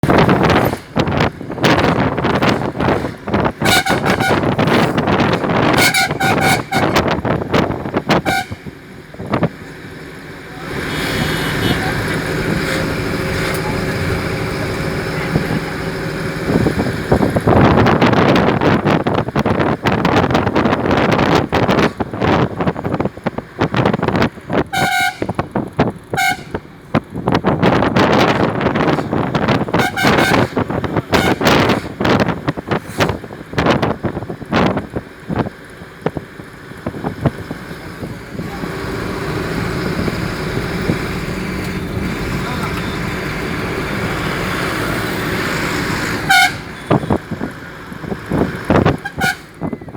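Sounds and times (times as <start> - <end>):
wind buffeting microphone: 0.0 - 10.0, 10.7 - 49.9
moving vehicle rumble: 0.0 - 49.9.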